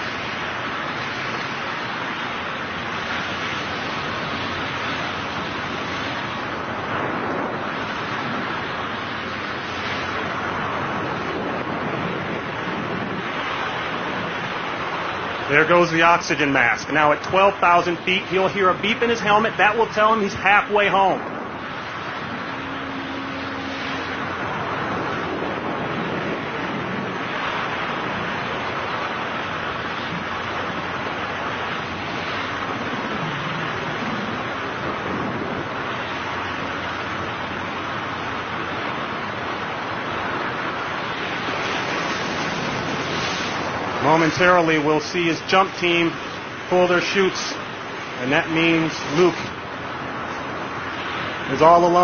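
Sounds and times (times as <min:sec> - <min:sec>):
air roaring past microphone: 0:00.0 - 0:52.0.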